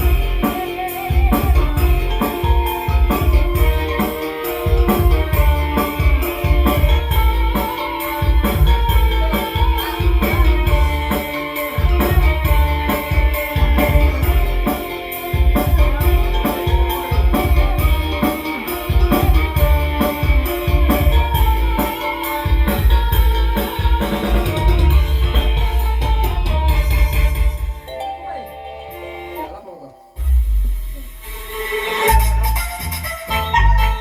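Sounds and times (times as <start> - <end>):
loud band music over sound system: 0.0 - 29.4, 30.2 - 34.0.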